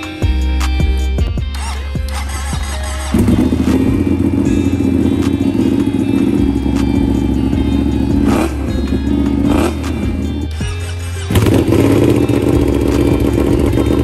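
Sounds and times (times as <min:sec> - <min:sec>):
motorcycle engine revving: 0:02.2 - 0:14.0.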